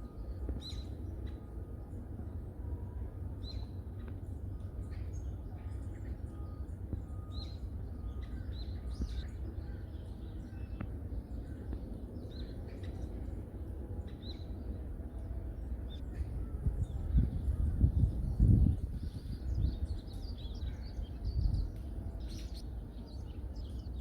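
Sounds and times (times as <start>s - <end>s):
steady low rumble: 0.0s - 24.0s
small birds chirping: 3.4s - 24.0s.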